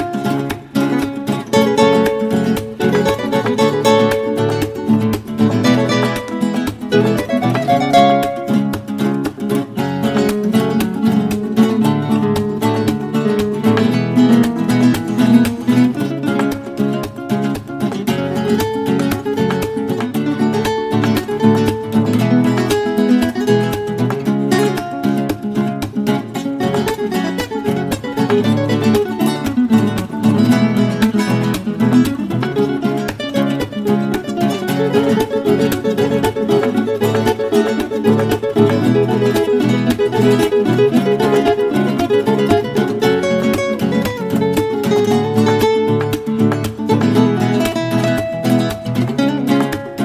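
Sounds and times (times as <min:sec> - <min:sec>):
acoustic guitar music: 0:00.0 - 0:50.0.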